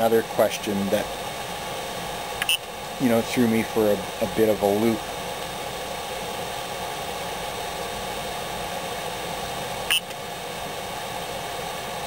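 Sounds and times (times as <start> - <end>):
background hiss and hum: 0.0 - 12.0.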